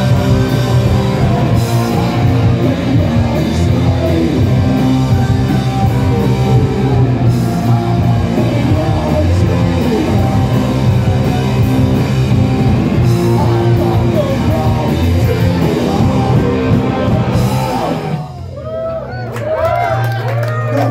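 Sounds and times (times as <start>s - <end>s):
rock band playing live: 0.0s - 19.1s.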